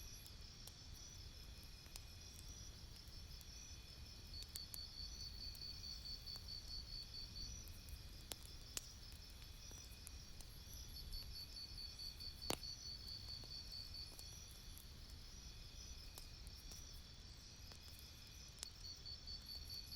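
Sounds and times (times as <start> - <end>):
campfire crackling: 0.2 - 19.7.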